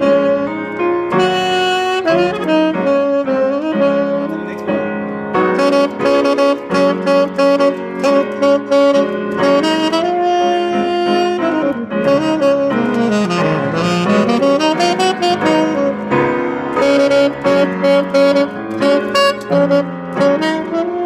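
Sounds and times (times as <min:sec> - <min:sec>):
baritone saxophone melody: 0:00.0 - 0:21.0
piano accompaniment: 0:00.0 - 0:21.0.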